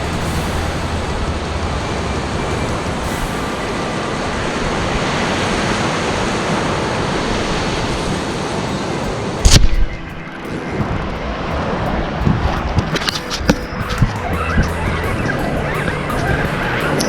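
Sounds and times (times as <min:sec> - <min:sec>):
ocean surf washing up: 0:00.0 - 0:17.0
wind on microphone: 0:00.0 - 0:17.0.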